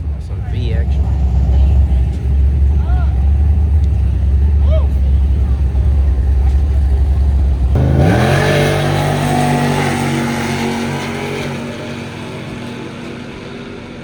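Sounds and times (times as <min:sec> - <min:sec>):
drag racing car engine: 0:00.0 - 0:14.0.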